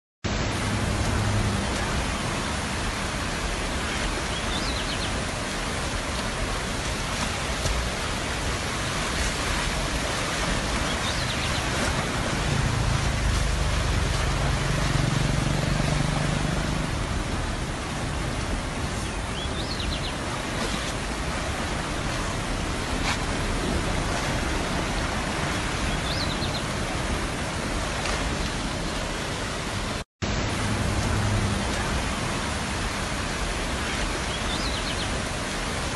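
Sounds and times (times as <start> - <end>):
floodwater rushing: 0.3 - 35.9.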